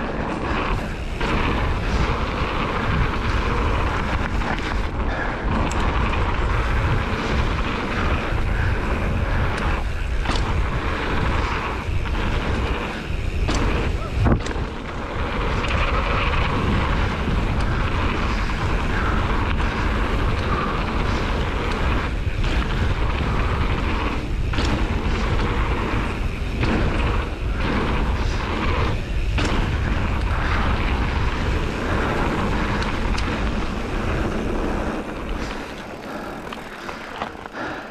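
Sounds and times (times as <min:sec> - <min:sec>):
bike tyres on dirt trail: 0:00.0 - 0:37.9
wind rushing over microphone: 0:00.0 - 0:37.9.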